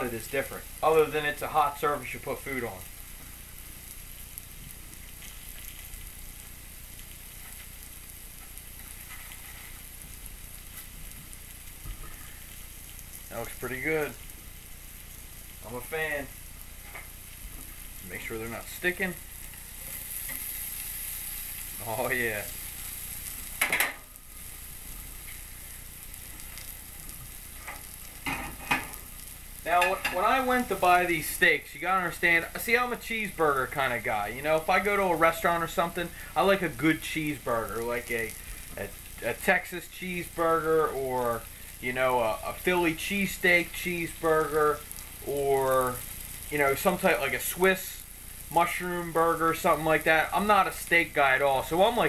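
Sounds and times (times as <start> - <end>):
faint frying pops: 0.0 - 52.0
steaks sizzling in grill pan: 0.0 - 52.0.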